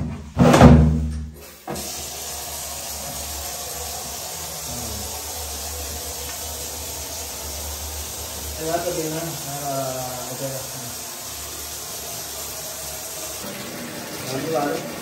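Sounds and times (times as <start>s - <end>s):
water running into plastic basin: 1.3s - 15.0s.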